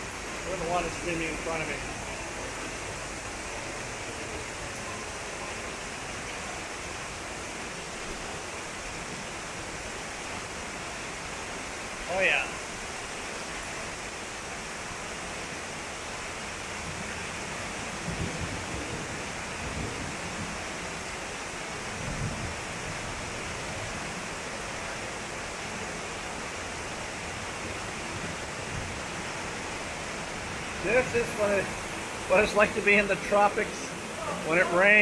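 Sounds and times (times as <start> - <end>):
heavy rain on pavement: 0.0 - 35.0
water streaming across ground: 0.0 - 35.0.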